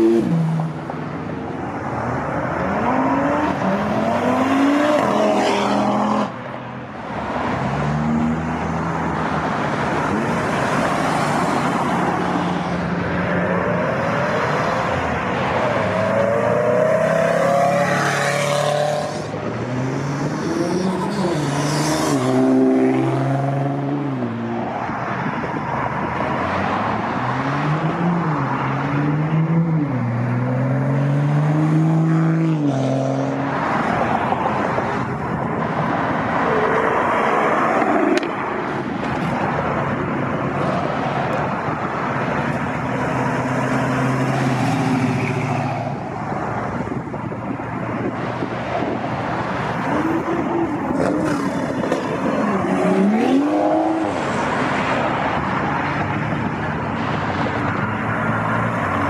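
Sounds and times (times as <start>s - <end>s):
car engines revving: 0.0s - 59.0s
exhaust and road noise: 0.0s - 59.0s.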